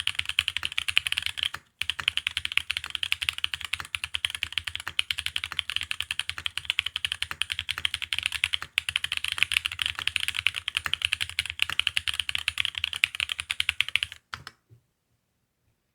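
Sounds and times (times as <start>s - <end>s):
fast typing on mechanical keyboard: 0.0s - 14.6s.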